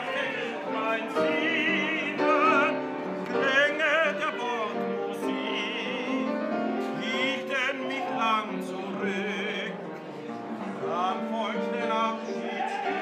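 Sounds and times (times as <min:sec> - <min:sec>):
man singing operatically: 0:00.0 - 0:09.9, 0:10.8 - 0:13.0
piano: 0:00.0 - 0:13.0.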